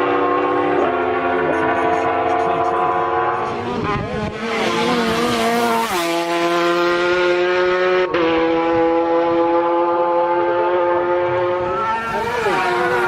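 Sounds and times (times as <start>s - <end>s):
superbike engine at high revs: 0.0s - 13.0s.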